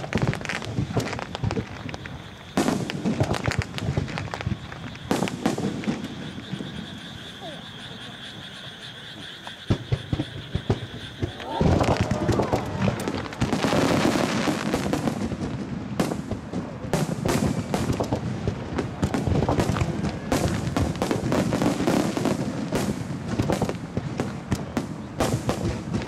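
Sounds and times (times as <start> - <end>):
fireworks bangs: 0.0 - 7.6, 9.4 - 26.0.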